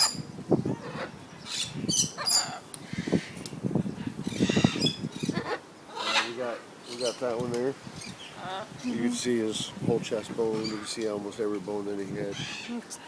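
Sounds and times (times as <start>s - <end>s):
birds squawking and chirping: 0.0s - 13.0s.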